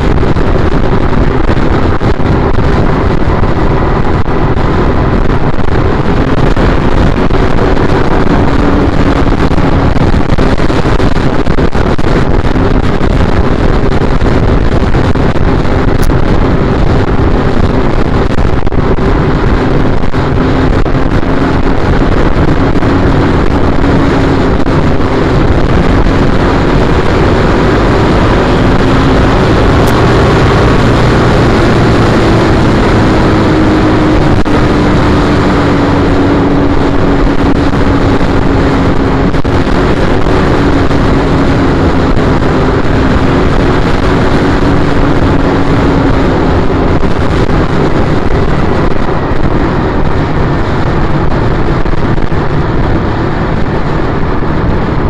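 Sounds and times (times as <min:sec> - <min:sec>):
motorcycle engine running: 0:00.0 - 0:55.0
wind rushing: 0:00.0 - 0:55.0.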